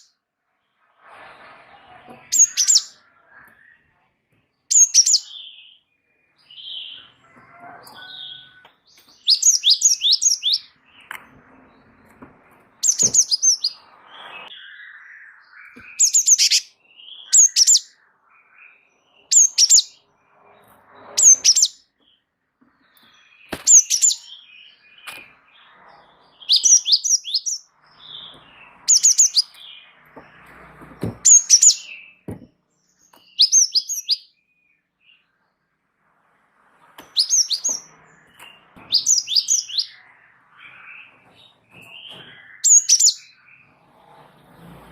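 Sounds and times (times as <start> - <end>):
soft bird chirps: 0.0 - 35.8, 36.7 - 44.7
bird singing rolling song: 1.6 - 35.8, 36.9 - 44.8.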